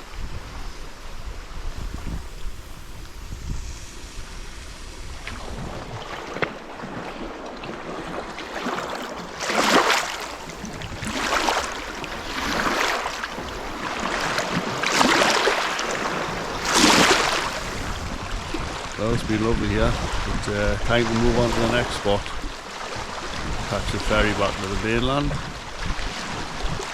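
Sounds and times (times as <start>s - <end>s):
small waves washing onto shore: 0.0s - 26.9s.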